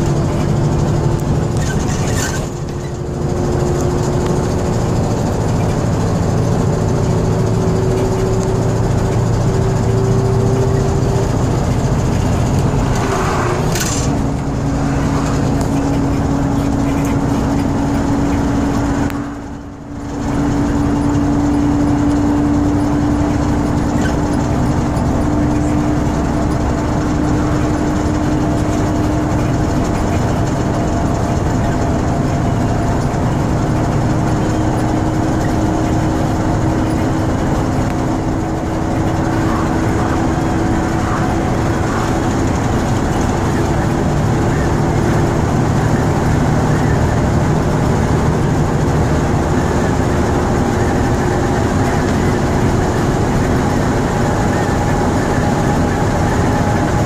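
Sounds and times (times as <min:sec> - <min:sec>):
bus diesel engine droning: 0:00.0 - 0:57.0
road and cabin rumble: 0:00.0 - 0:57.0.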